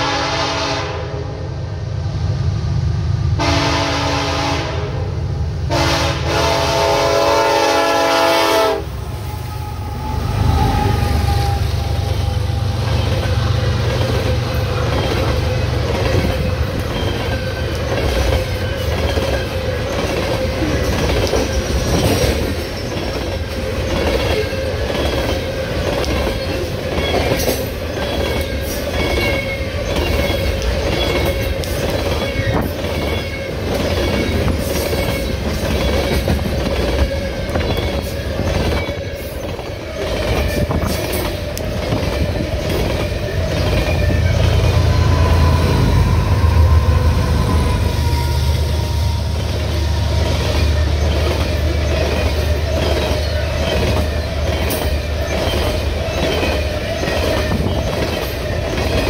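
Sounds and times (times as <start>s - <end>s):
low train rumble: 0.0s - 59.0s
train wheels clicking over joints: 9.9s - 59.0s.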